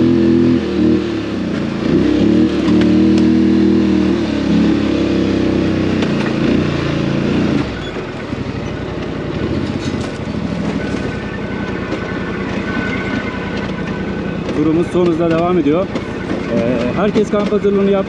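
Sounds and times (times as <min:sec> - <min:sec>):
quad bike engine revving and idling: 0:00.0 - 0:11.0, 0:14.4 - 0:18.0.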